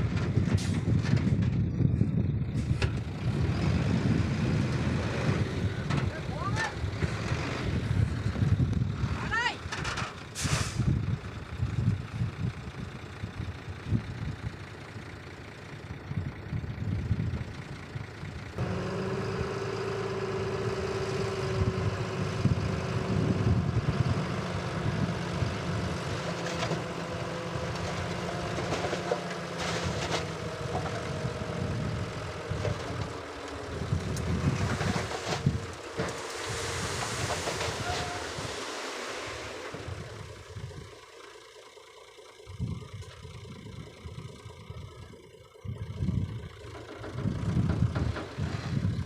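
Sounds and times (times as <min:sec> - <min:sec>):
heavy diesel machinery engines: 0:00.0 - 0:49.0.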